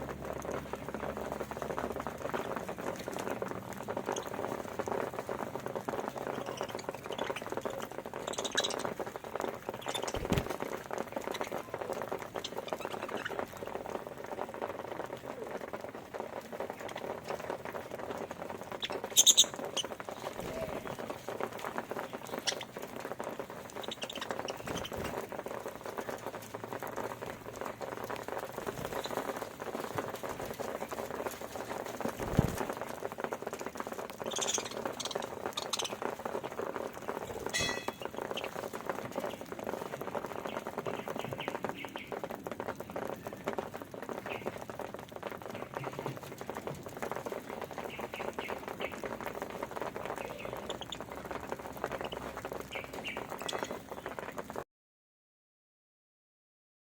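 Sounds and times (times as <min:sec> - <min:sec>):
birds pecking at seed: 0:00.0 - 0:54.6.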